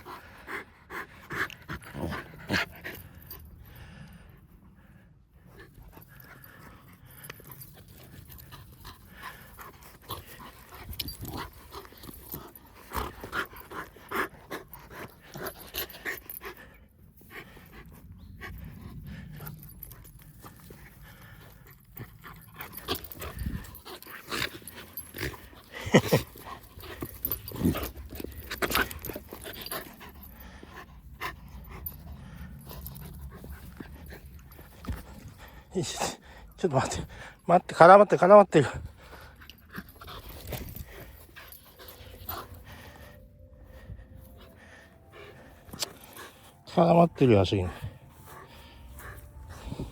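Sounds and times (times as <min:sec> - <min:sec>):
dog panting: 0:00.0 - 0:49.9.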